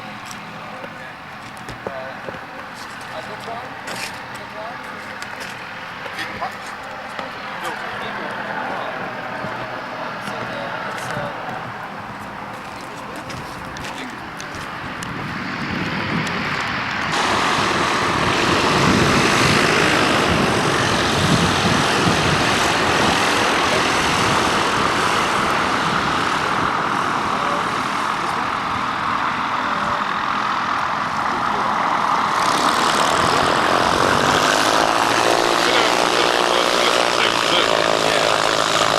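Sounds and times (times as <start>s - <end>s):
propeller aircraft engine running: 0.0s - 38.9s.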